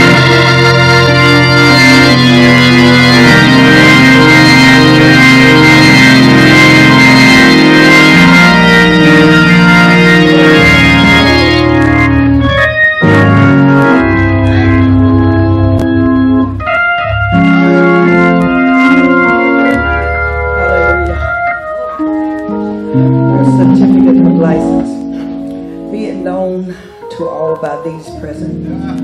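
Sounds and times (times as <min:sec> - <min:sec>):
organ playing held chords: 0:00.0 - 0:29.0.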